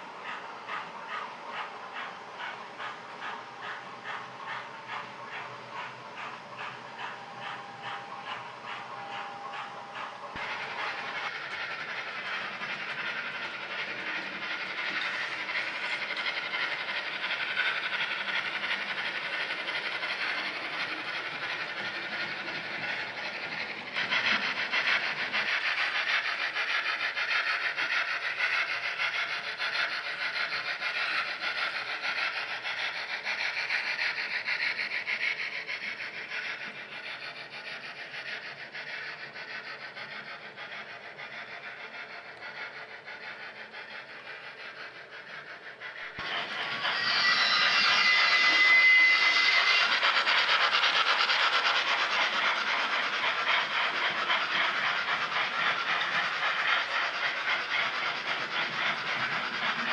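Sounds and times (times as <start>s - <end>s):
model train wheels clattering: 0.0s - 59.9s.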